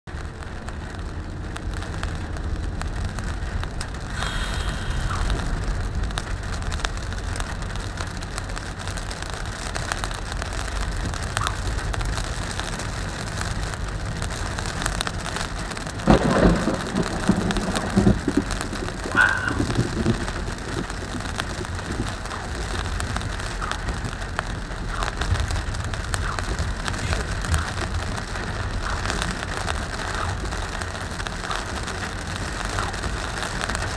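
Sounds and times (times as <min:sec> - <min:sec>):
car driving on wet road: 0:00.1 - 0:33.9
rain on car windshield: 0:00.1 - 0:33.9
loud thunderclap rumbling: 0:02.2 - 0:08.4, 0:10.8 - 0:33.9.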